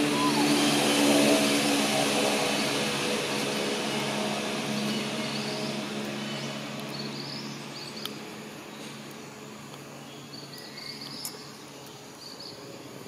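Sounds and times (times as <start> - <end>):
vehicle engine hum: 0.0 - 10.6.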